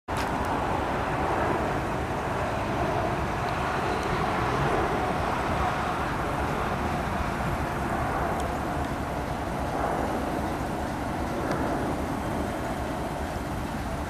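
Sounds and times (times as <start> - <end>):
jet airliner roaring overhead: 0.1 - 14.0.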